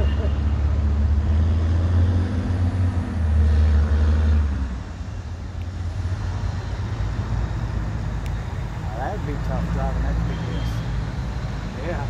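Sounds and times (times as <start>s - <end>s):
large vehicle engine hum: 0.0s - 12.0s.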